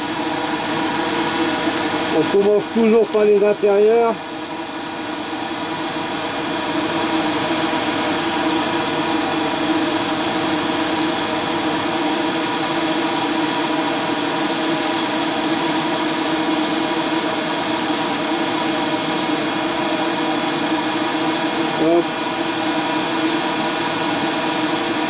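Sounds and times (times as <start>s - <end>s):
extraction fan humming: 0.0s - 25.0s
airbrush hissing: 3.4s - 11.4s, 12.6s - 25.0s.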